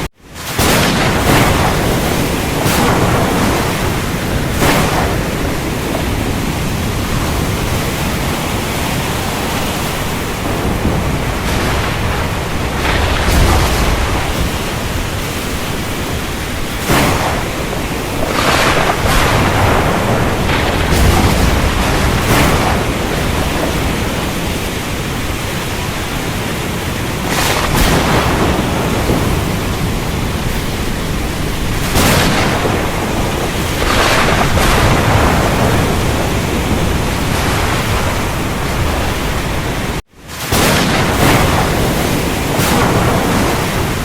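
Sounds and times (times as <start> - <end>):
heavy rain and wind: 0.0 - 44.0
thunder cracks: 0.0 - 44.0.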